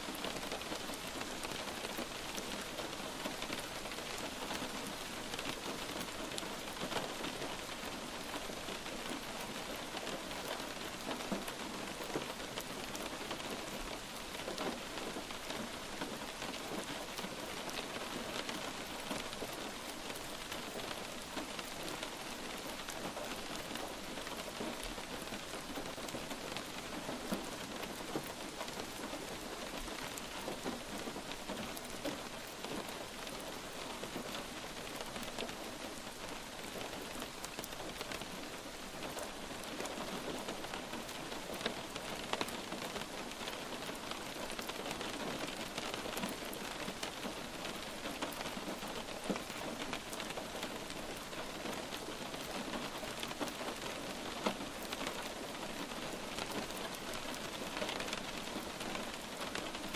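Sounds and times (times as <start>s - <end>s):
light rain hissing: 0.0s - 59.9s
raindrops ticking on a surface: 0.0s - 59.9s.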